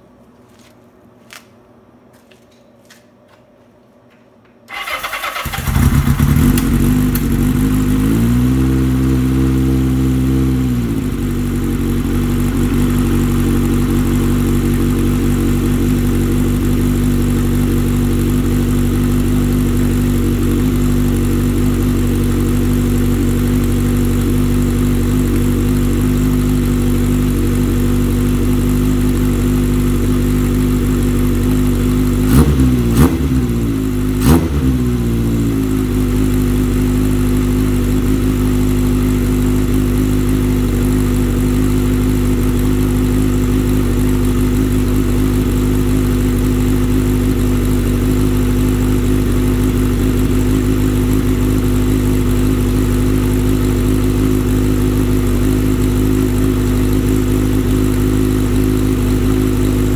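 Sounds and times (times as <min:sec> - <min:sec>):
motorcycle engine starting and revving: 0:04.7 - 0:59.9.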